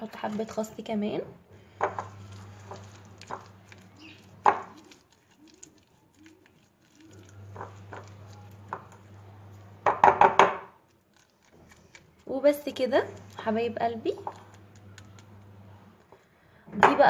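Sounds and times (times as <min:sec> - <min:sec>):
low steady hum: 0:00.0 - 0:17.0
spoon mixing in a bowl: 0:01.8 - 0:16.4.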